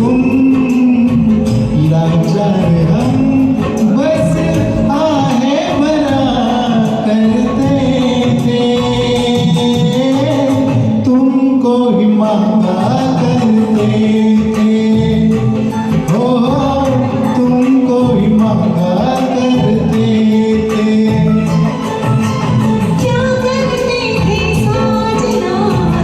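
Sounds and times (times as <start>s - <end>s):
karaoke backing track: 0.0s - 26.0s
person singing: 0.0s - 26.0s.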